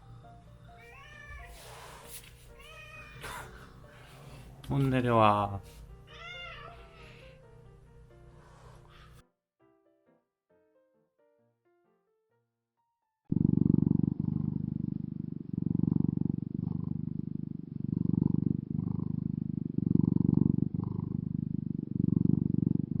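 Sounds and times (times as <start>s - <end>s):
cat purring: 0.0s - 9.2s, 13.3s - 23.0s.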